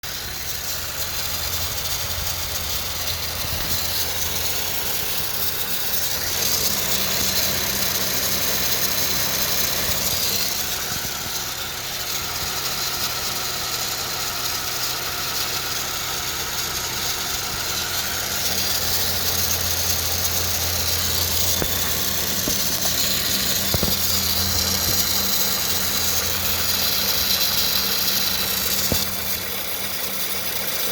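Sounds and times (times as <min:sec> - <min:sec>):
car engine with rattling buzz: 0:00.0 - 0:30.9.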